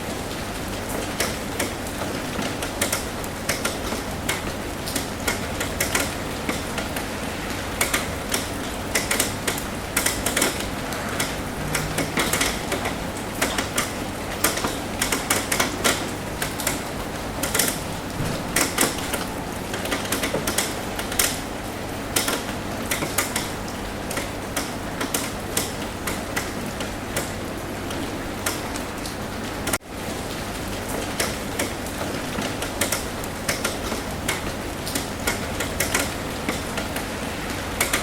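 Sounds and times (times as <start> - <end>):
rain drops tapping on roof: 0.0 - 38.0
steady rain hiss: 0.0 - 38.0.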